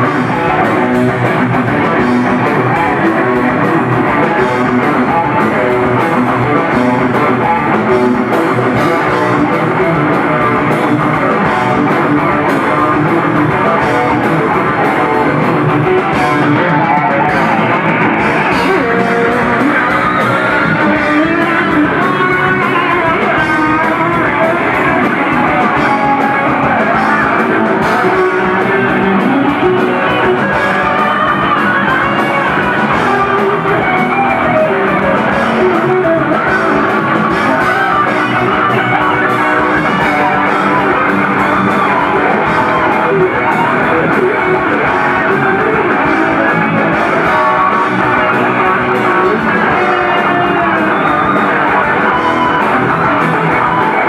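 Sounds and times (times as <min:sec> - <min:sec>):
bass: 0:00.0 - 0:54.0
distorted electric guitars: 0:00.0 - 0:54.0
pounding drum kit: 0:00.0 - 0:54.0
wavering lead guitar line: 0:00.0 - 0:54.0.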